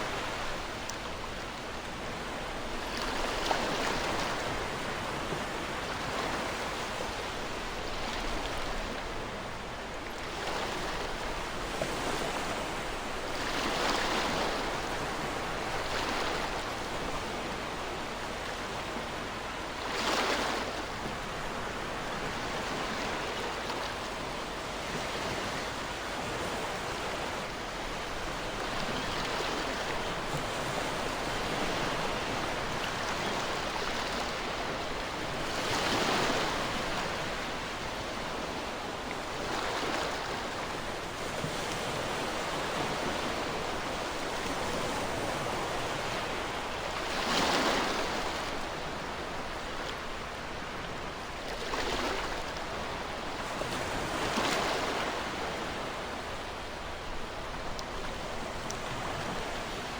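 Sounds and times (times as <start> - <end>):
surf wash: 0.0 - 59.9.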